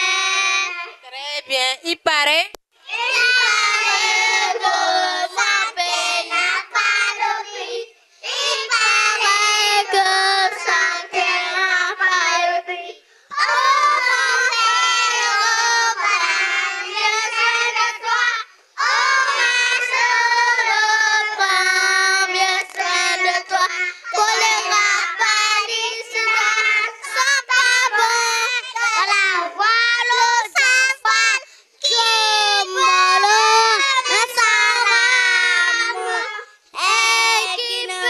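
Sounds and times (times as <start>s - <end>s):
children singing in unison: 0.0s - 1.0s, 2.8s - 38.0s.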